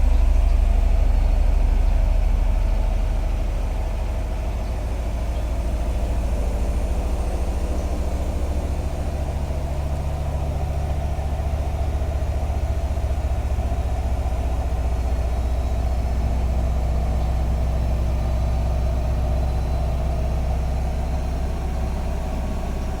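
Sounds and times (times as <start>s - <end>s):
washing machine spinning drone: 0.0s - 23.0s.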